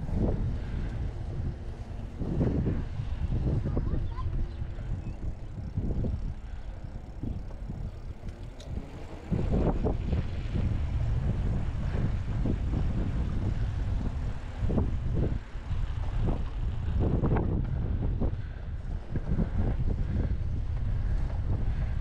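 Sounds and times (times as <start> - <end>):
bicycle tyres rumbling on concrete: 0.0 - 22.0
wind buffeting microphone: 0.0 - 22.0.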